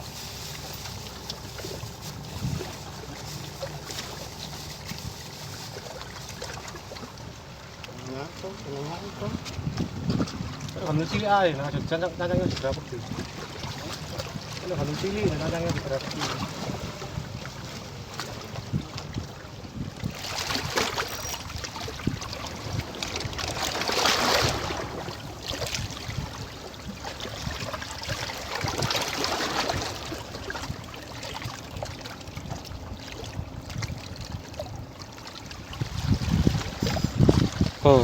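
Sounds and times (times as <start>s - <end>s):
sea water washing among rocks: 0.0s - 38.0s.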